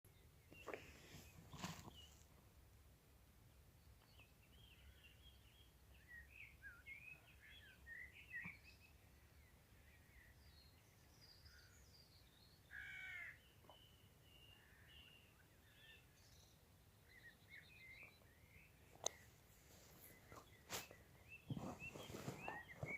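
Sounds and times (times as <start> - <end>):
faint birds chirping: 0.1 - 22.9.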